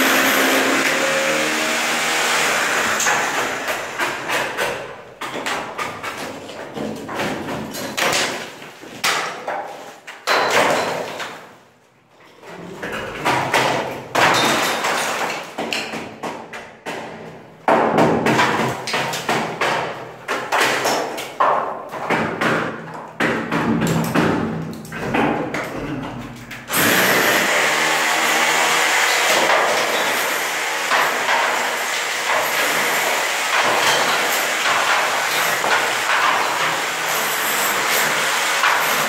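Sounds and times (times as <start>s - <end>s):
rotary hammer chipping plaster: 0.0s - 9.6s, 12.8s - 39.0s.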